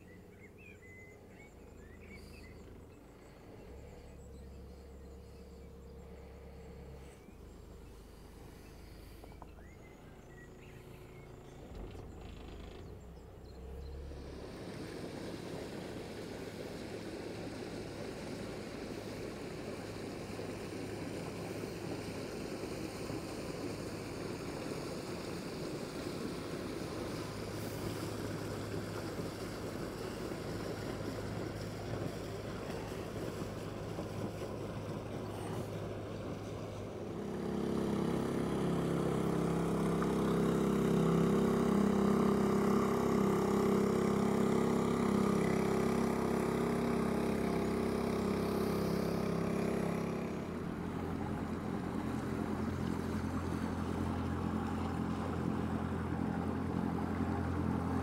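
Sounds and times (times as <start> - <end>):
louder boat engine note: 0.0 - 58.0
motorboat engines humming: 0.0 - 58.0.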